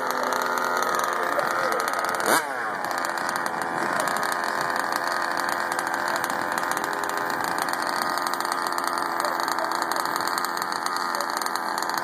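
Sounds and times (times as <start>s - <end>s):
small two-stroke engine idling: 0.0s - 12.0s.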